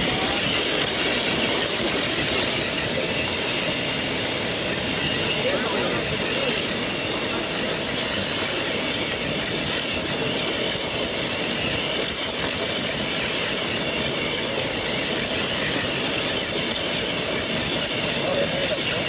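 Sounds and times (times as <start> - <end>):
rc truck motor whirring: 0.0 - 19.0.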